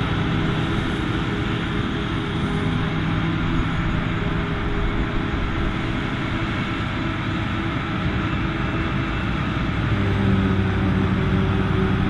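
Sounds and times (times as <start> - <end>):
forage harvester engine and cutting gear: 0.0 - 12.0.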